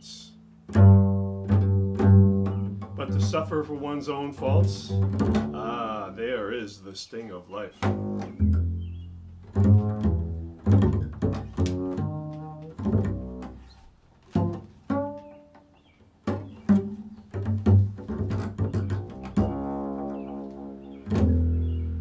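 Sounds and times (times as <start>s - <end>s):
double bass plucked notes: 0.0s - 6.7s, 7.8s - 22.0s.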